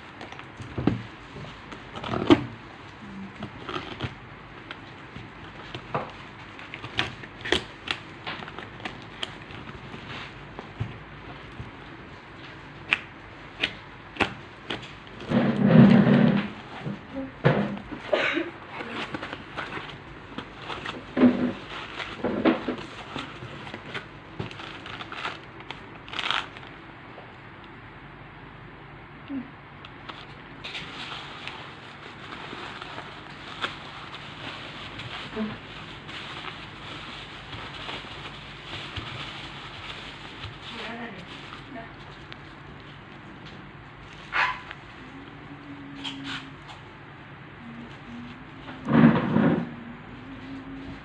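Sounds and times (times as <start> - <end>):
packaging crackling and rustling: 0.0 - 18.1, 18.7 - 26.8, 30.0 - 45.0.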